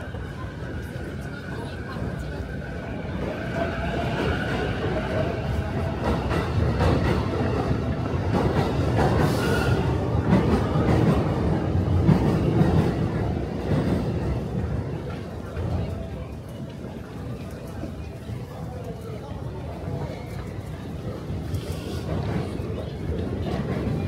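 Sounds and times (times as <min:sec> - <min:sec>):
train rumbling on tracks: 0:00.0 - 0:24.0.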